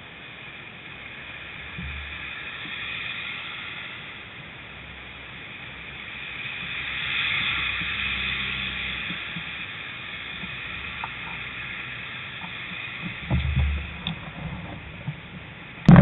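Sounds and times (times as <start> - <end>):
light road traffic: 0.0 - 16.0
lorry engine and tyre noise: 0.0 - 16.0.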